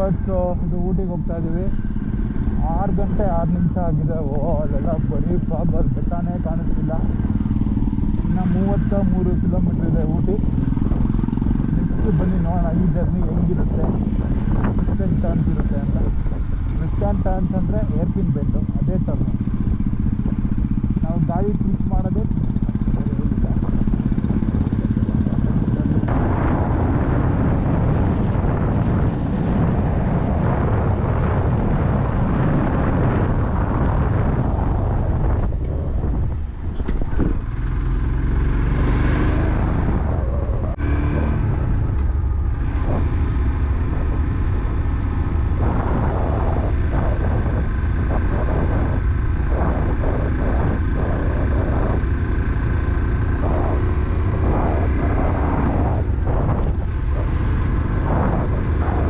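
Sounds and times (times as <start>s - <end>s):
motorcycle engine revving: 0.0s - 59.0s
wind rumble on microphone: 0.0s - 59.0s.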